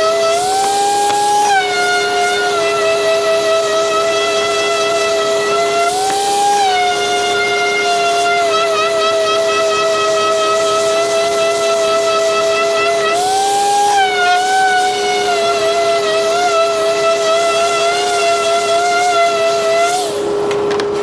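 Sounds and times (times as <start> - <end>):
orbital sander whining on wood: 0.0 - 21.0.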